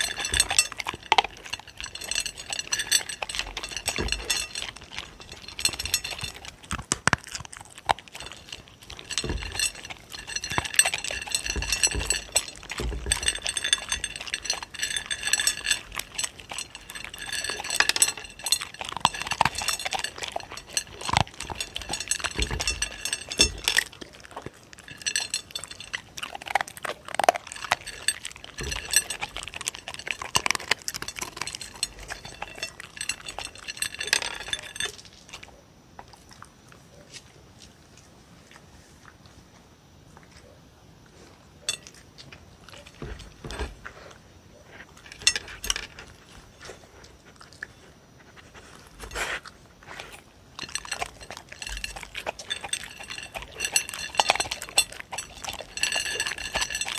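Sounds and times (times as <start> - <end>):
kibble clinking on plate: 0.0 - 35.6, 41.6 - 44.2, 44.8 - 56.9
dogs crunching kibble: 0.0 - 39.4, 41.1 - 56.9.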